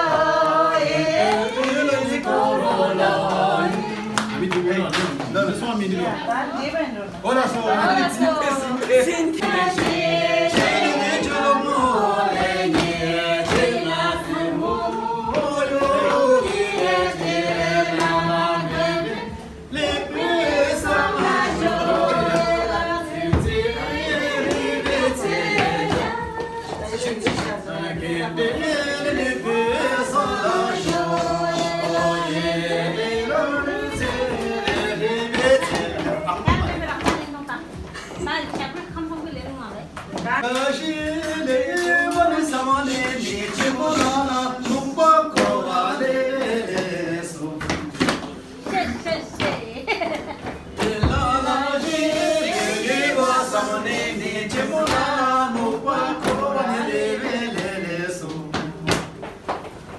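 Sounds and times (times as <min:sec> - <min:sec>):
group singing unaccompanied: 0:00.0 - 0:59.9.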